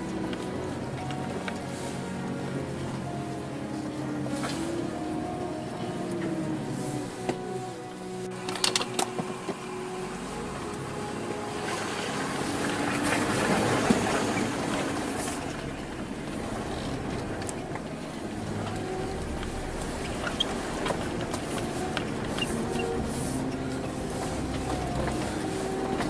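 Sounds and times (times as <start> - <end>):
car engine drone: 0.0 - 26.0
tyre and suspension noise: 0.0 - 26.0.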